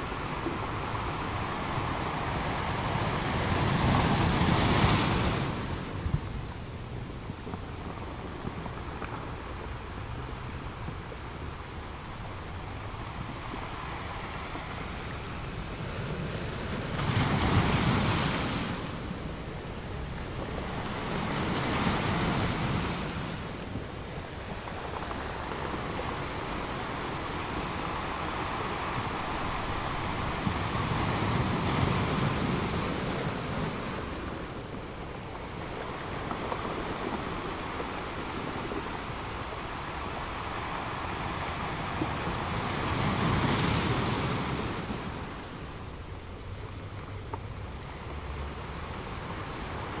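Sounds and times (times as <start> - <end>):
sea waves rushing: 0.0 - 50.0
wind: 0.0 - 50.0.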